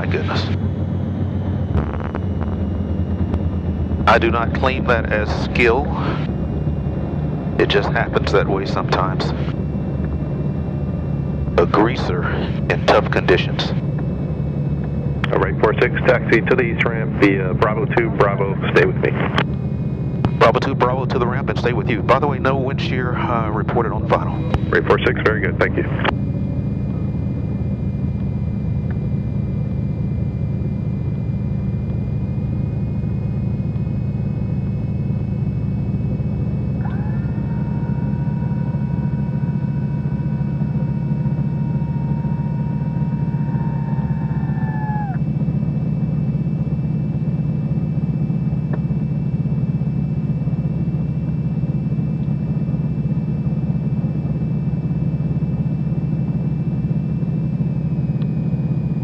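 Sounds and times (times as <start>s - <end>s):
steady tone sagging in pitch: 0.0s - 59.0s
twin piston aircraft engines droning: 0.0s - 59.0s.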